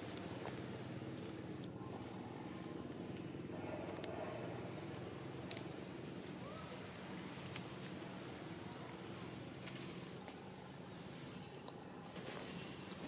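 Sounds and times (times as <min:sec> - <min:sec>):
low outdoor background hum: 0:00.0 - 0:13.0.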